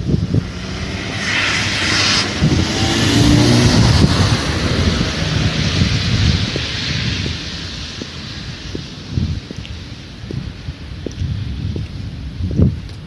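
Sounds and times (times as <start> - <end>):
passing vehicle engine rumble: 0.0 - 11.5
wind buffeting microphone: 0.0 - 13.0.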